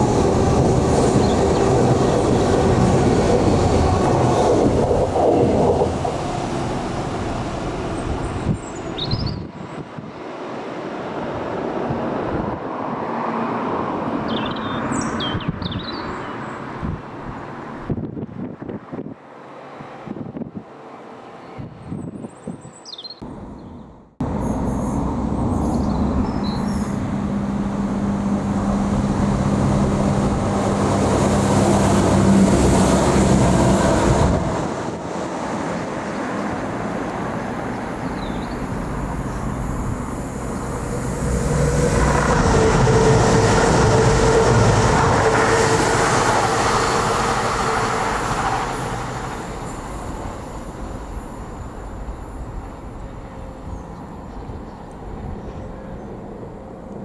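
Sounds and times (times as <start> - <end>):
train passing close: 0.0 - 17.9, 23.2 - 57.0.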